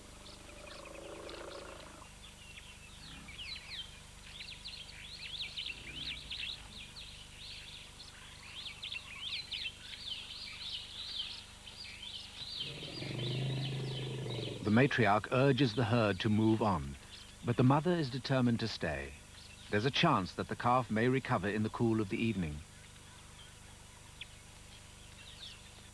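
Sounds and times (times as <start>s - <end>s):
small birds chirping: 0.0s - 25.9s.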